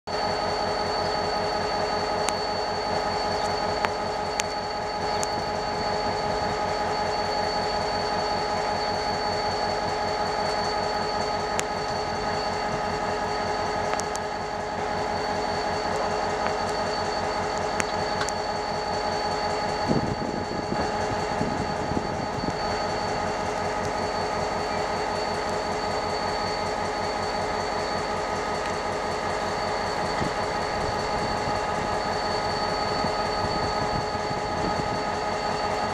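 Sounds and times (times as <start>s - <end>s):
diesel locomotive throb: 0.1s - 35.9s
high whining tones: 0.2s - 35.9s.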